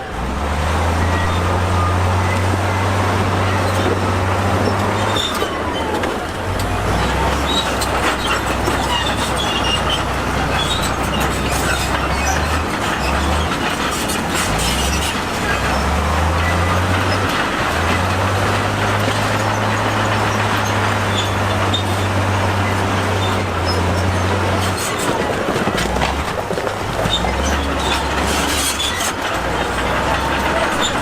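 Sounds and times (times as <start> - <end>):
diesel engine under load: 0.0 - 31.0
steel tracks clanking: 0.0 - 31.0
rock grinding: 0.8 - 31.0.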